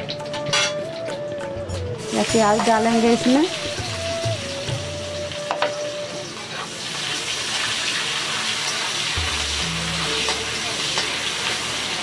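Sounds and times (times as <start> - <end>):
onions sizzling in hot oil: 1.8 - 12.0.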